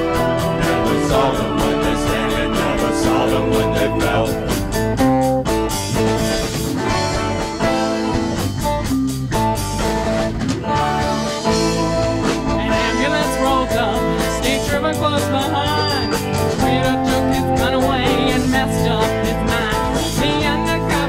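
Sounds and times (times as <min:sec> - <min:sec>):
drum kit: 0:00.0 - 0:21.0
guitars: 0:00.0 - 0:21.0.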